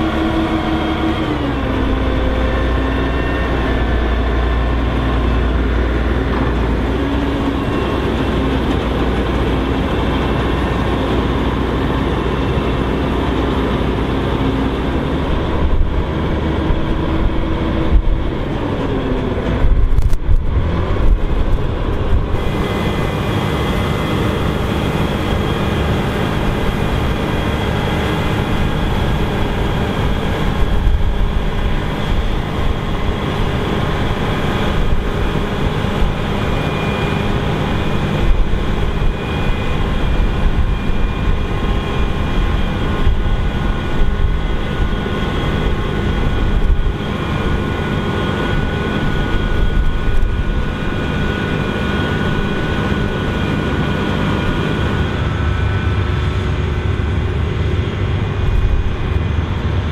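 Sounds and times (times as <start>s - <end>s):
heavy engine drone: 0.0s - 59.9s
threshing machinery humming: 0.0s - 59.9s.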